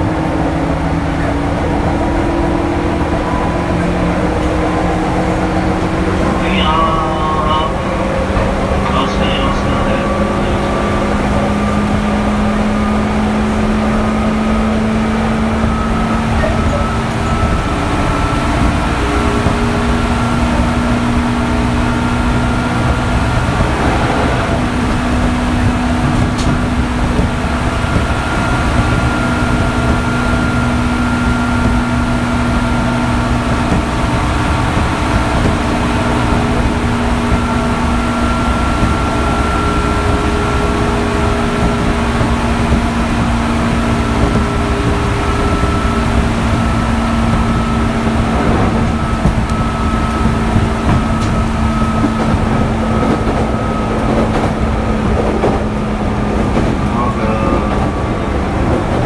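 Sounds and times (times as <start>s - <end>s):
electric train motor whine: 0.0s - 59.0s
wheels rumbling on rail: 0.0s - 59.0s.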